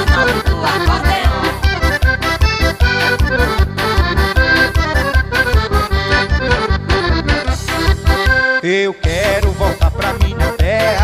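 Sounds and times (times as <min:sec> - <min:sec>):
bass drum beat: 0:00.0 - 0:08.4, 0:09.0 - 0:11.0
accordion melody: 0:00.0 - 0:11.0.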